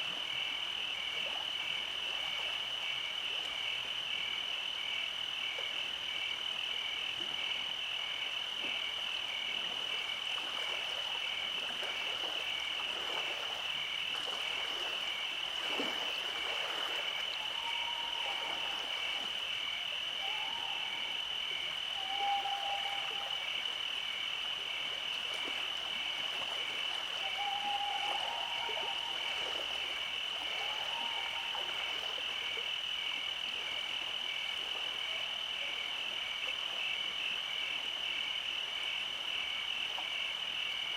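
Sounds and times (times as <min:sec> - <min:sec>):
frogs croaking: 0:00.0 - 0:40.9
insects trilling: 0:00.3 - 0:39.6.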